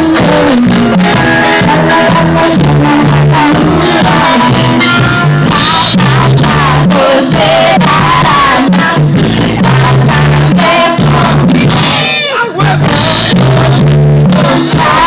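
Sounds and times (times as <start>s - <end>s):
bouncing bass line: 0.0s - 15.0s
live reggae band playing: 0.0s - 15.0s
vocals: 0.0s - 15.0s.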